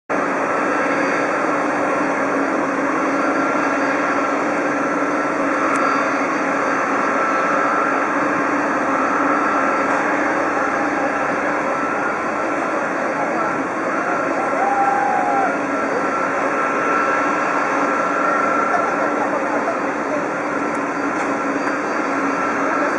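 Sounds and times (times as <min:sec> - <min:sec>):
jet engines running: 0:00.1 - 0:22.9.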